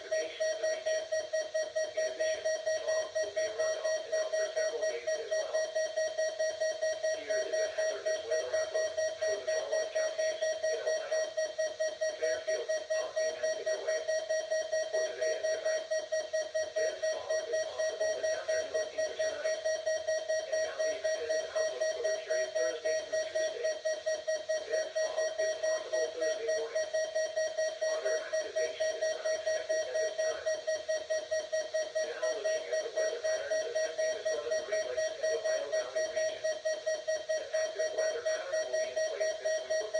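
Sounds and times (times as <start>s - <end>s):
weather radio alarm beeping: 0.0s - 39.9s.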